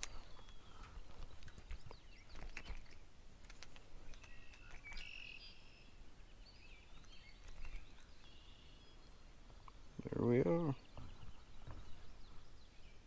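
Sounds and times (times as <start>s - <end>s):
faint songbird calls: 0.0s - 13.0s.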